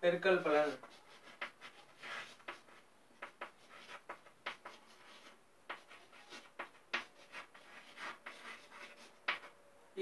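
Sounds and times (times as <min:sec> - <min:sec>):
chalk tapping and scraping on blackboard: 0:00.1 - 0:09.5.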